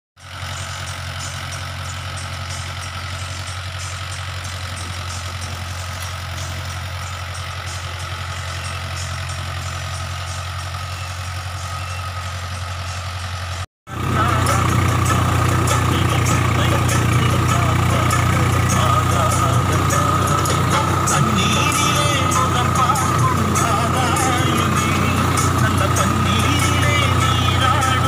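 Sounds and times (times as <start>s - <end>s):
tractor diesel engine droning: 0.2s - 28.0s.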